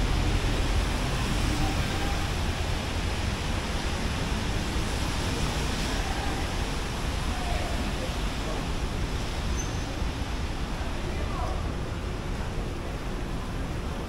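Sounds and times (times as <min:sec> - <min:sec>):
rainy street rushing rumble: 0:00.0 - 0:14.0.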